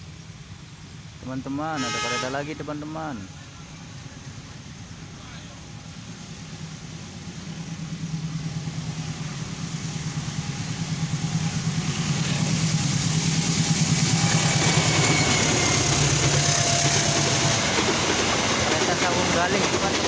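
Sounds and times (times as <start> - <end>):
train engine rumble: 0.0 - 20.0
train wheels rattling on rails: 0.0 - 20.0.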